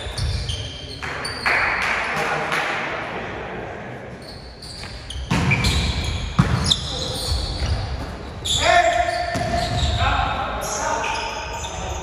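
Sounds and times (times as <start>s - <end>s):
players' voices echoing: 0.0s - 12.0s.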